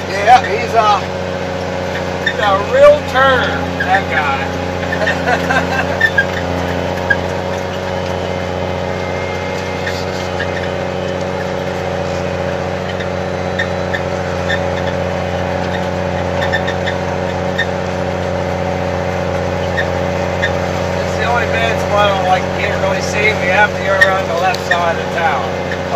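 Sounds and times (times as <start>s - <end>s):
vehicle engine droning: 0.0s - 25.9s.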